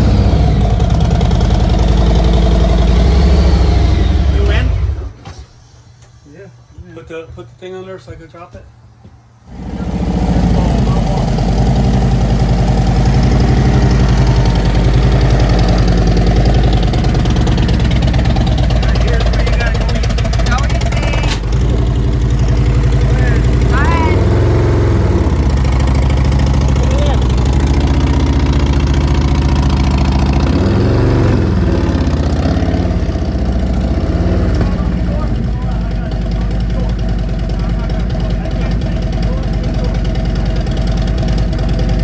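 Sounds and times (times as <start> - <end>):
motorcycle engine idling: 0.0 - 42.0.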